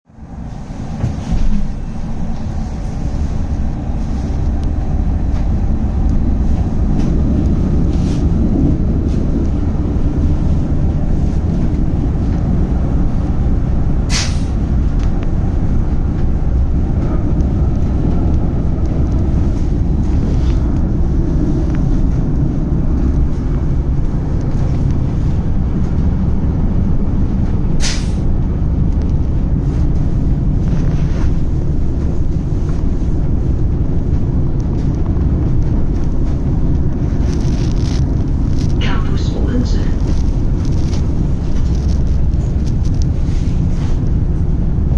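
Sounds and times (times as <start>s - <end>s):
tram rumbling on rails: 0.0s - 44.9s.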